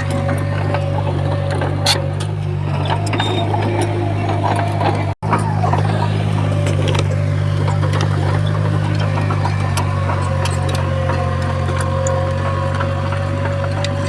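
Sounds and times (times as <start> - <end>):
heavy machinery diesel engine: 0.0 - 14.0.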